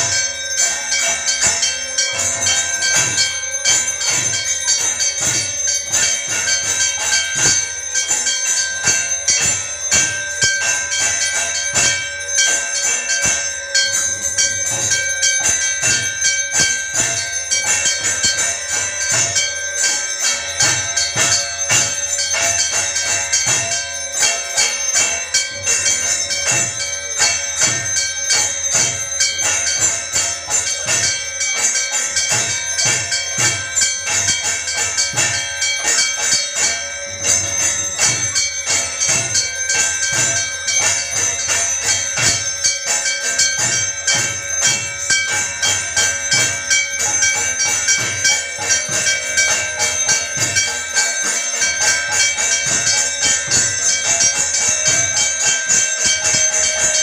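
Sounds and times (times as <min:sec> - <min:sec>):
temple bells ringing: 0:00.0 - 0:57.0.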